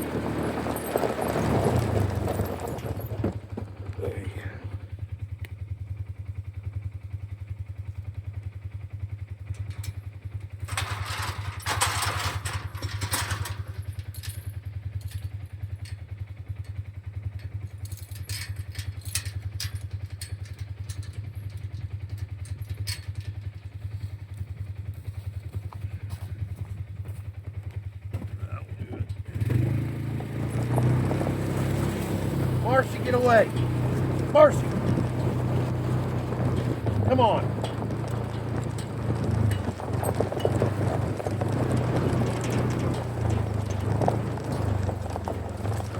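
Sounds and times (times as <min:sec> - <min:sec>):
knocks and clatters: 0:00.0 - 0:04.8, 0:09.5 - 0:45.9
vehicle engine running: 0:00.0 - 0:45.9.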